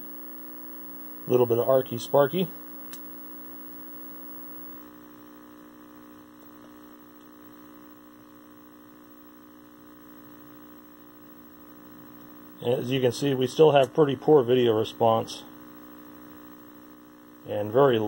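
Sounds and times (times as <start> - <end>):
television mains hum: 0.0 - 18.0.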